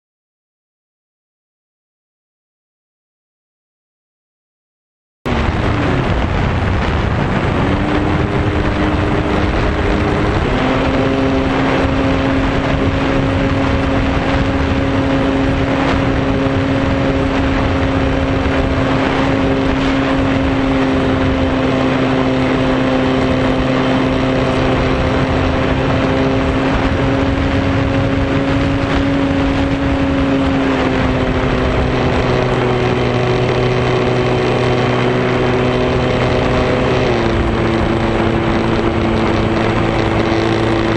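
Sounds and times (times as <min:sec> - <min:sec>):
wind rushing over microphone: 0:05.3 - 0:40.9
model airplane motor and propeller: 0:06.8 - 0:40.9.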